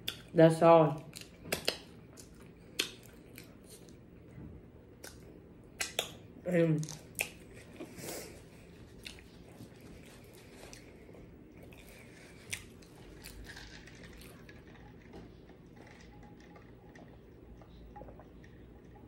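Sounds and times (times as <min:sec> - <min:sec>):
quiet chewing: 0:01.0 - 0:04.0, 0:06.8 - 0:19.0.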